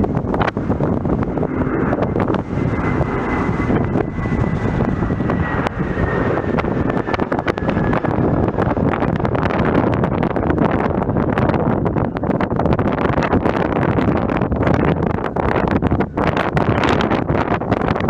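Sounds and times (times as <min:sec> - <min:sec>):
jet airliner engines rumbling: 0:00.0 - 0:18.0
wind buffeting microphone: 0:00.0 - 0:18.0.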